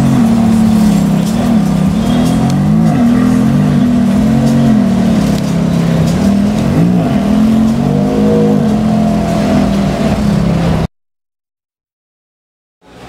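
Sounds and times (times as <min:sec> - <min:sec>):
car engine idling with throttle blips: 0:00.0 - 0:10.9.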